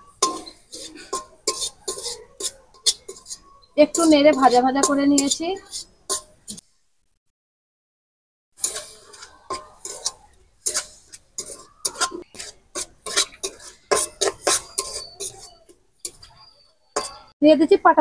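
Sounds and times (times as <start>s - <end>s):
metal spatula scraping a wok: 0.0s - 6.6s, 8.6s - 17.4s.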